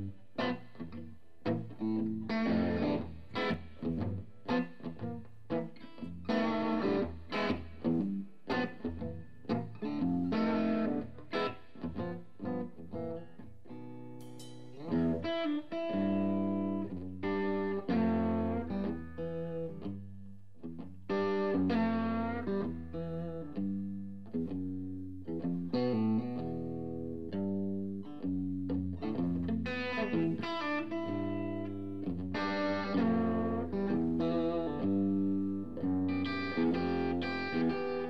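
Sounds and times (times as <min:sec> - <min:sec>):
electric guitar lines: 0:00.0 - 0:38.0.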